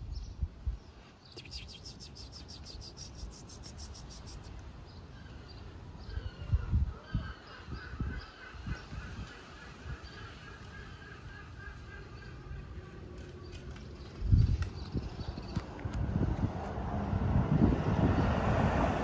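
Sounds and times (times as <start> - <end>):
birds chattering and calling: 0.1 - 15.9.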